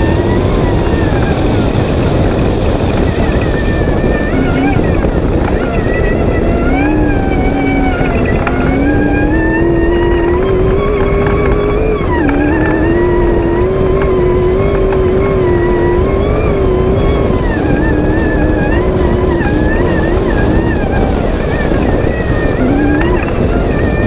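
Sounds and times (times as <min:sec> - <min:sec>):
buggy engine at high revs: 0:00.0 - 0:24.0
heavy rushing noise: 0:00.0 - 0:24.0.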